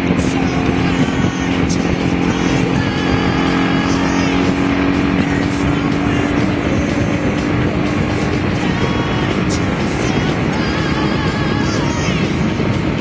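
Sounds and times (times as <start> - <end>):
motorcycle engine running: 0.0 - 13.0
wind rushing past microphone: 0.0 - 13.0.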